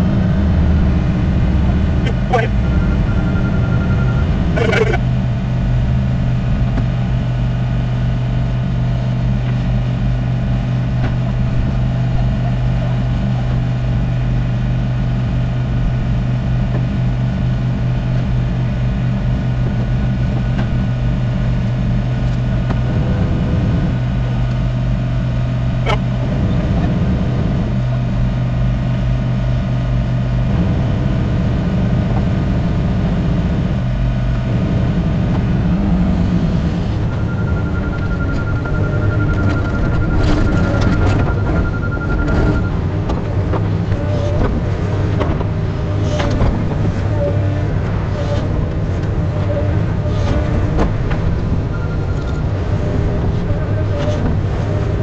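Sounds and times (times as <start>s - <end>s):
heavy machinery engines droning: 0.0s - 55.0s.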